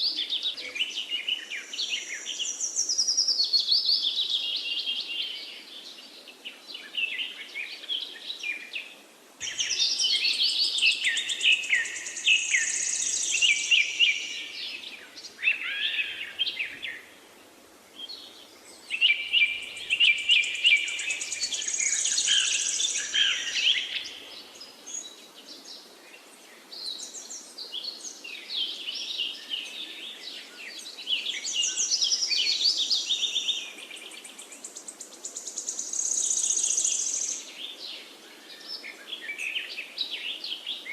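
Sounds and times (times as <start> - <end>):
songbirds singing and trilling: 0.0 - 40.9.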